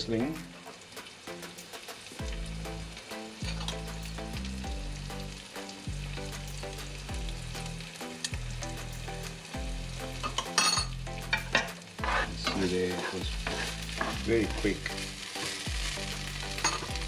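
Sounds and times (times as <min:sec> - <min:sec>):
background music: 0:00.0 - 0:17.0
frying pan sizzling: 0:00.0 - 0:17.0.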